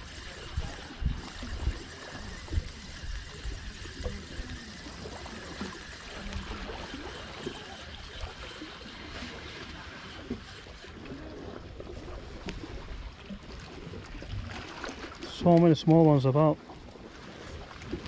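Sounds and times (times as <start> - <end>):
water lapping against rocks: 0.0 - 18.0.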